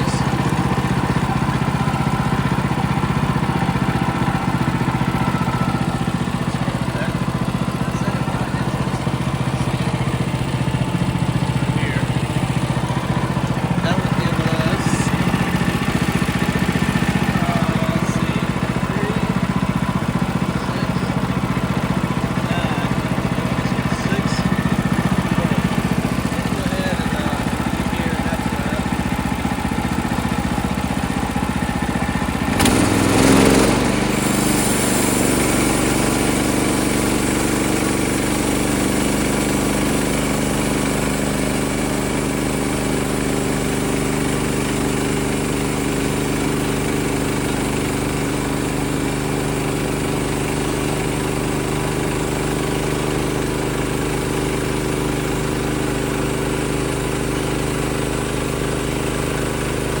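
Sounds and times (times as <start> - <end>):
small gas engine running: 0.0 - 60.0.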